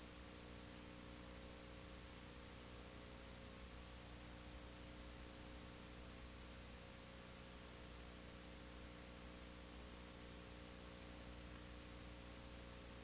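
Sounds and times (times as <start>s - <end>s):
faint steady hiss: 0.0s - 13.0s
low steady hum: 0.0s - 13.0s.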